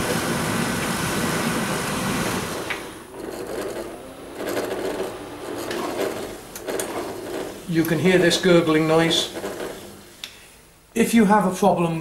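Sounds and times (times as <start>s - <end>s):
tumble dryer running: 0.0s - 10.3s
refrigerant gas gurgling: 0.0s - 10.5s.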